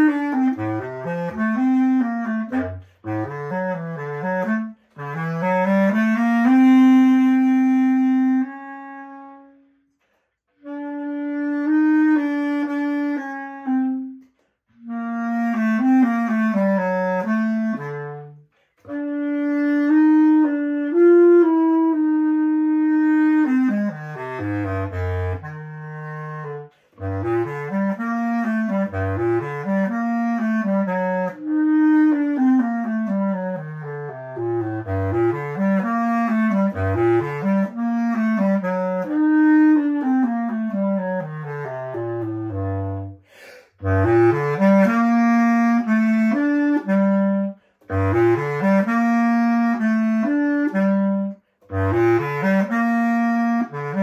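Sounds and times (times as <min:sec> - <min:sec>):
solo bass clarinet melody: 0:00.0 - 0:54.0.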